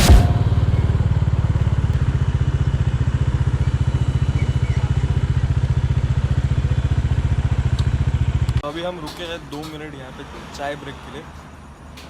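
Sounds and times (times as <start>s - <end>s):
motorcycle engine idling: 0.0s - 10.3s.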